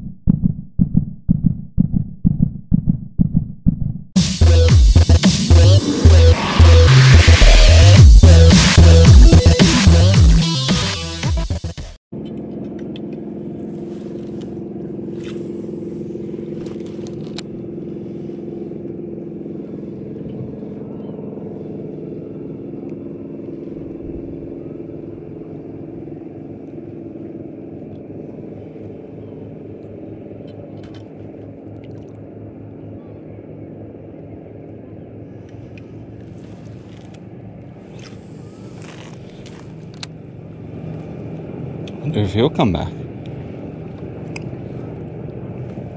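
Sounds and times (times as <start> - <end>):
boat motor humming: 3.7 - 45.9.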